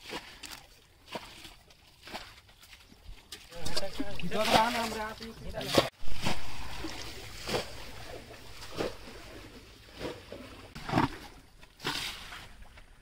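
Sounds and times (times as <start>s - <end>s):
water splashing in a bucket: 0.0s - 12.7s.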